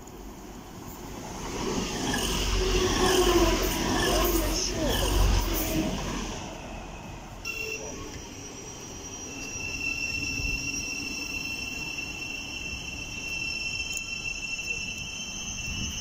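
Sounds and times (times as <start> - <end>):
passing train rushing: 0.1 - 16.0
high-pitched rail squeal: 1.6 - 16.0.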